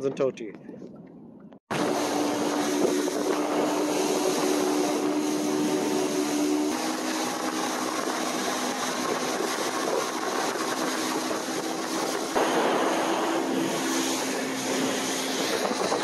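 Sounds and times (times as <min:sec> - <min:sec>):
motorboat engine drone: 0:01.7 - 0:16.0
wind and water rushing: 0:01.7 - 0:16.0.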